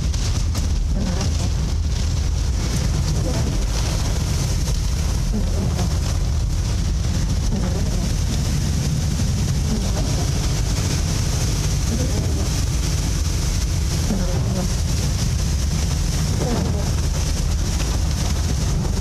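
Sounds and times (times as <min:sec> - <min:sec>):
constant hiss: 0:00.0 - 0:19.0
moving vehicle rumble: 0:00.0 - 0:19.0.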